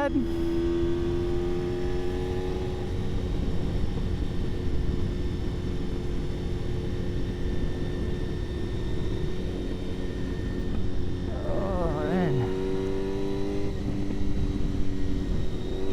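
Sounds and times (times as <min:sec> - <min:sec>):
motorcycle engine cruising: 0:00.0 - 0:15.9.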